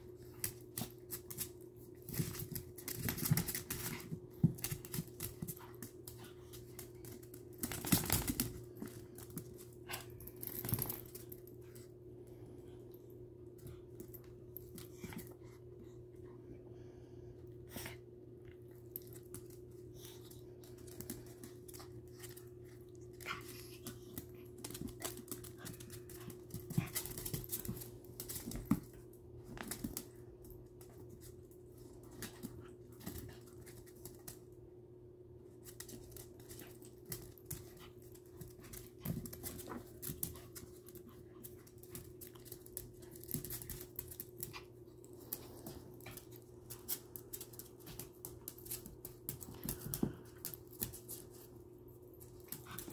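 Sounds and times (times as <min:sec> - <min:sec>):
dogs scuffling on hard floor: 0:00.0 - 0:12.6, 0:18.5 - 0:34.6, 0:35.4 - 0:52.9
steady low hum: 0:00.0 - 0:52.9.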